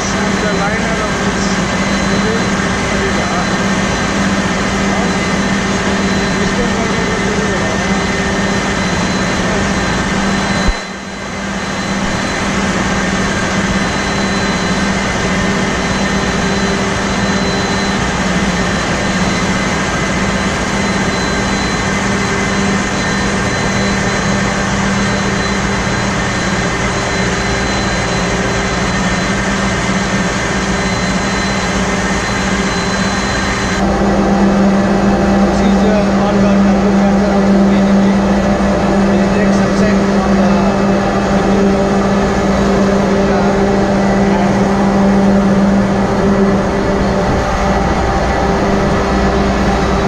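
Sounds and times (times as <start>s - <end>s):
engine room machinery din: 0.0s - 50.0s
faint high whine: 0.0s - 50.0s.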